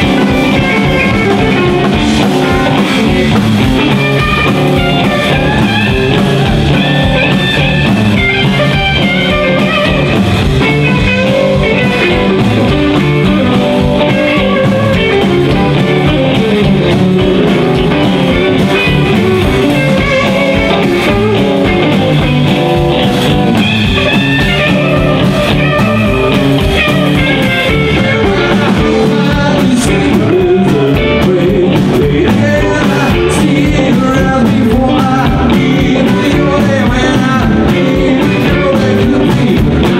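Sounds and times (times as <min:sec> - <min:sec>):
person singing: 0:00.0 - 0:22.8, 0:23.6 - 0:39.9
rock and roll band playing: 0:00.0 - 0:39.9.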